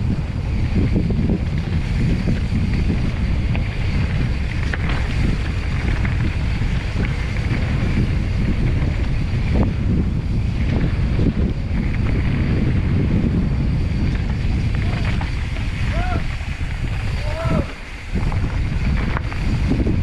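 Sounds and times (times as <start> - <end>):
bike clicks and rattles: 0.0 - 20.0
tyre and trail rumble: 0.0 - 20.0
wind buffeting microphone: 0.0 - 20.0.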